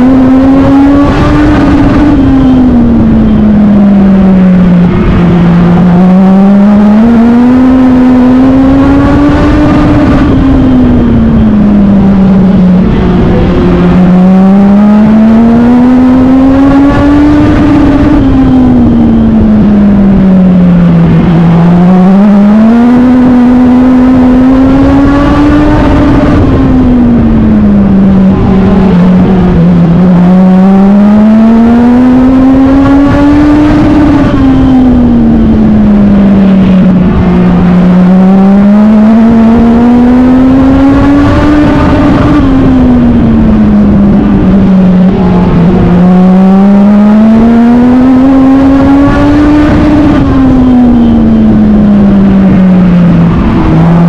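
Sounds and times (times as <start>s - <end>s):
racing engine revving: 0.0s - 54.0s
wind and road noise: 0.0s - 54.0s.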